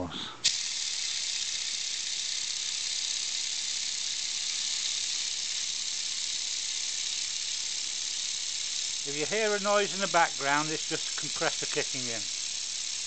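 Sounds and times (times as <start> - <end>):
steam engine air hissing: 0.4 - 13.0.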